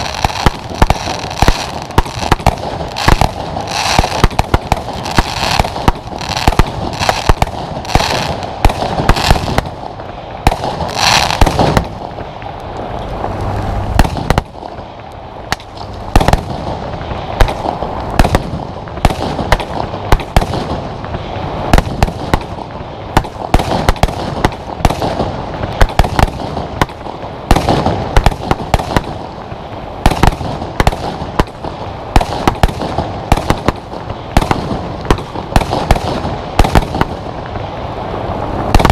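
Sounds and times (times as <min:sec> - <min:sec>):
firework bangs: 0:00.0 - 0:38.9
firework crackling: 0:00.0 - 0:38.9.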